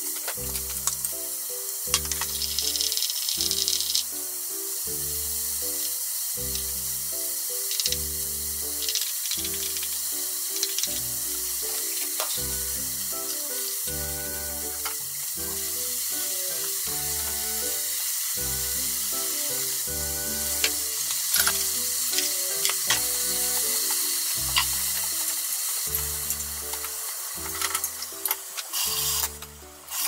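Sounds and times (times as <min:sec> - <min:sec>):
background music: 0:00.0 - 0:30.0
mushrooms sizzling in a frying pan: 0:00.0 - 0:30.0.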